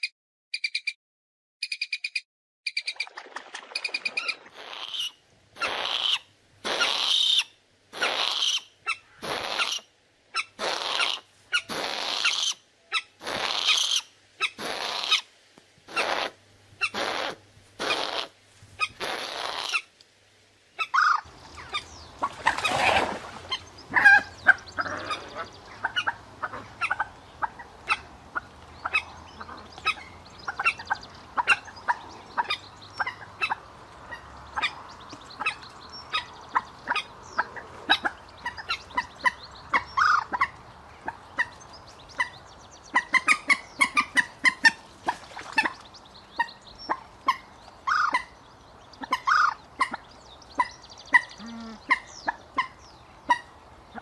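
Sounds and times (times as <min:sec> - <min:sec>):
moorhen calls: 0:03.9 - 0:15.3, 0:20.8 - 0:54.0.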